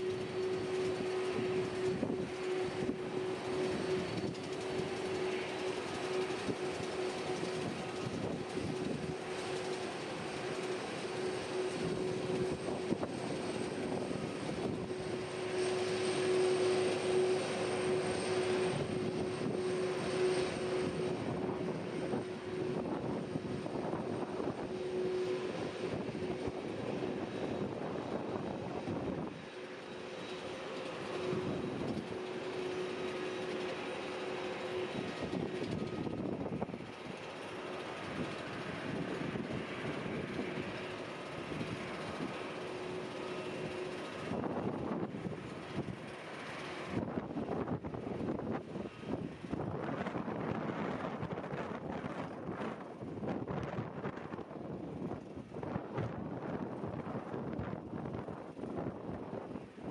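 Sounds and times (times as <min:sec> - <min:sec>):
airliner engines running: 0:00.0 - 0:59.9.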